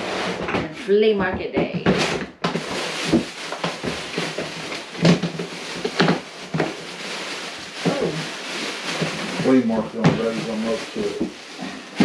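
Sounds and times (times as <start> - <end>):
plastic bag rustling and crinkling: 0.0 - 12.0
sharp crackles or knocks: 0.0 - 12.0.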